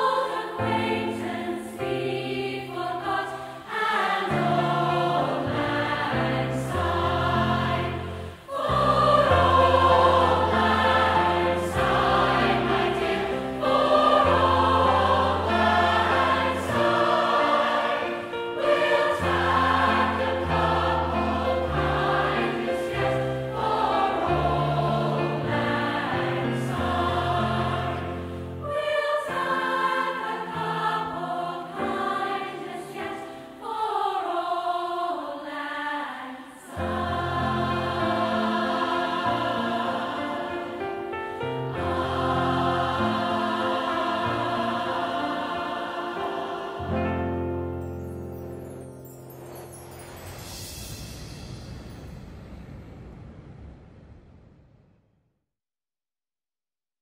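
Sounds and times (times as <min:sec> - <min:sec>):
mixed choir singing: 0:00.0 - 0:47.8.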